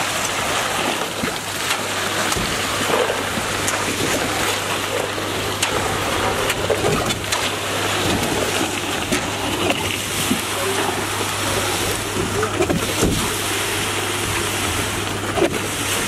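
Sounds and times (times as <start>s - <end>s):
pump engine hum: 0.0s - 16.0s
wet concrete sloshing and scraping: 0.0s - 16.0s.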